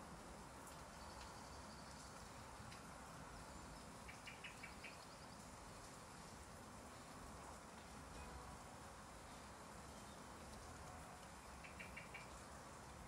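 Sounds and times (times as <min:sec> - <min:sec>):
light rain hissing: 0:00.0 - 0:13.0.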